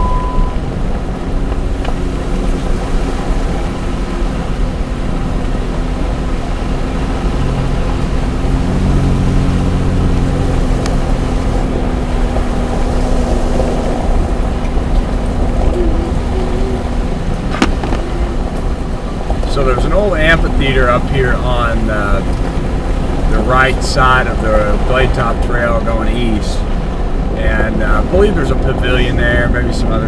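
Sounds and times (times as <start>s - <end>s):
vehicle engine and road rumble: 0.0s - 30.0s.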